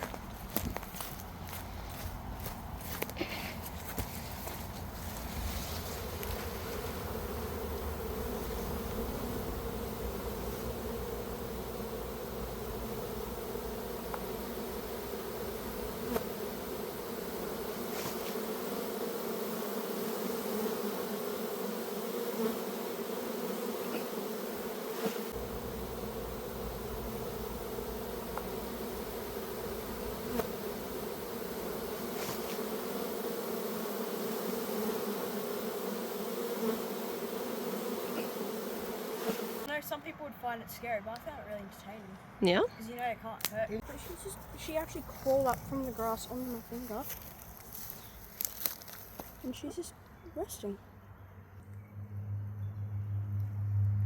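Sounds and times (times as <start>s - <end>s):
bees buzzing: 0.0s - 39.8s, 43.8s - 50.7s.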